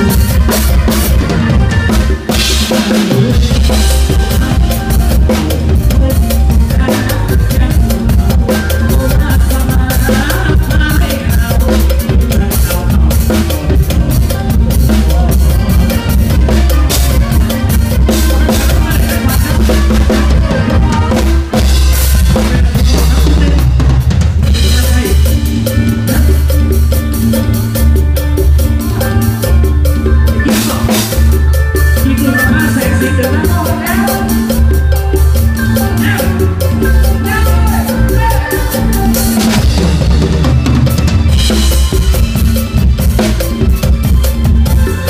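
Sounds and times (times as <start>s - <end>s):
bass line: 0.0s - 45.0s
drum kit playing: 0.0s - 45.0s.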